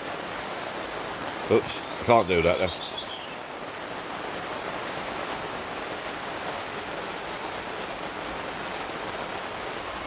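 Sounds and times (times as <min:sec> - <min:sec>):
rain on a fabric canopy: 0:00.0 - 0:10.0.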